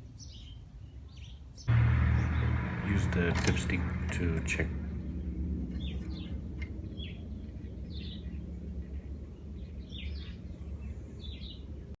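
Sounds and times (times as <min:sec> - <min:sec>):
low outdoor rumble: 0:01.7 - 0:12.0.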